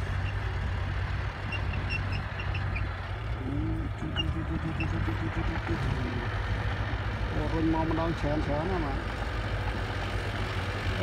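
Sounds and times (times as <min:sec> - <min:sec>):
bulldozer diesel engine under load: 0:00.0 - 0:11.0.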